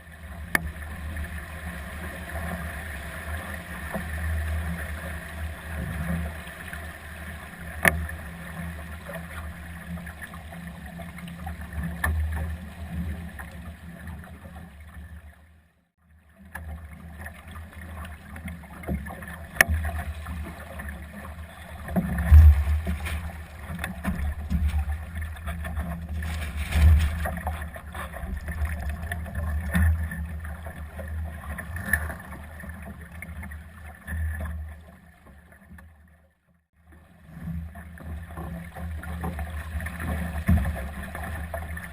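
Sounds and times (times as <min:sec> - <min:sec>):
water rushing along boat hull: 0:00.0 - 0:15.5, 0:16.3 - 0:36.1, 0:36.7 - 0:41.9.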